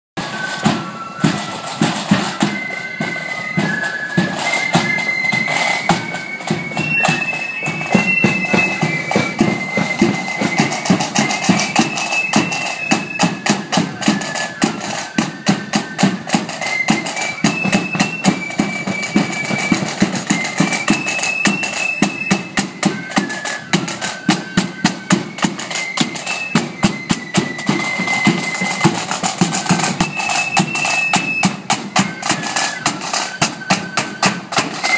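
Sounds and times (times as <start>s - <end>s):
flutes playing melody: 0.2s - 34.9s
side drums beating: 0.2s - 34.9s.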